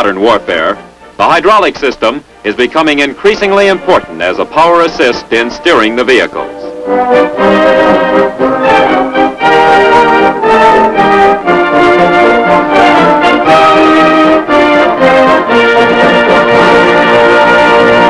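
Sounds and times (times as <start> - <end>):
brass-led orchestral music: 0.0 - 18.0.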